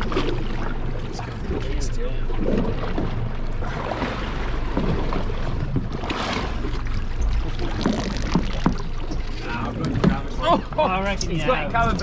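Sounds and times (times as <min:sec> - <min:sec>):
boat engine rumble: 0:00.0 - 0:12.0
water sloshing: 0:00.0 - 0:12.0.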